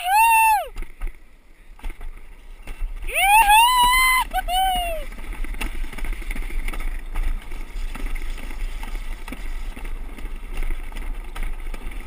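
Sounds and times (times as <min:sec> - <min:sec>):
sled rumbling on track: 0:00.0 - 0:12.0.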